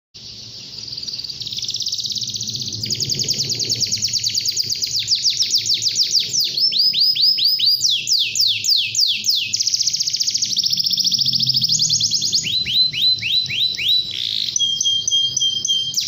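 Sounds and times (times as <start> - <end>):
canary singing trills: 0.2 - 16.0.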